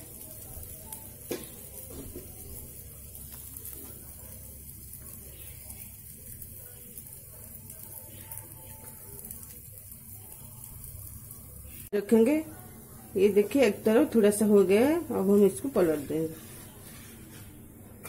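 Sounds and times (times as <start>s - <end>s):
batter sizzling in oil: 0.0s - 18.0s.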